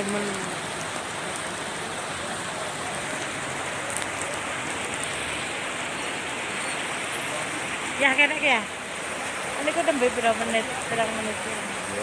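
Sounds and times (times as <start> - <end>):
heavy rain on water: 0.0 - 12.0.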